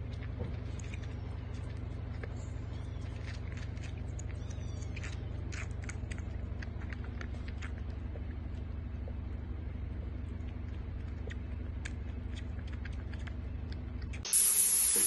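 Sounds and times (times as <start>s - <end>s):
steady low rumble: 0.0s - 14.9s.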